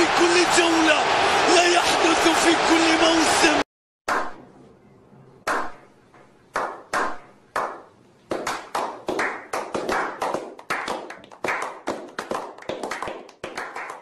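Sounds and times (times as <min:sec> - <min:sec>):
group clapping: 0:00.0 - 0:04.4, 0:06.6 - 0:14.0.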